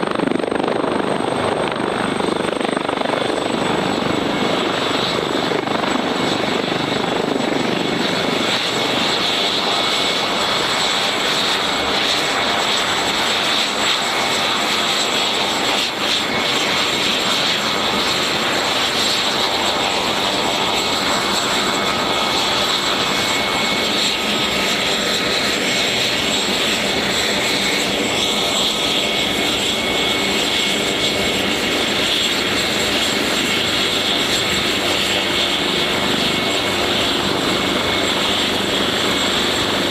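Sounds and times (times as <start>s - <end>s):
helicopter engine whine: 0.0s - 39.9s
helicopter rotor noise: 0.0s - 39.9s.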